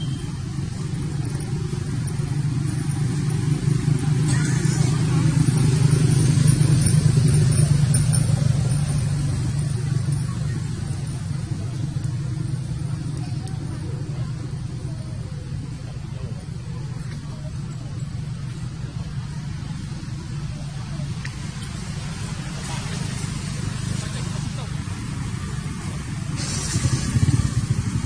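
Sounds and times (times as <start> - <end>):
low motor rumble: 0.0 - 28.0.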